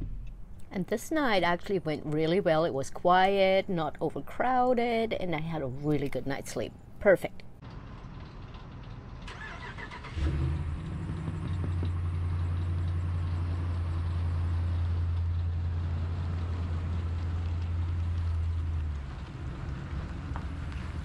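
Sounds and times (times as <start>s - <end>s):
vehicle engine low hum: 0.0s - 21.0s.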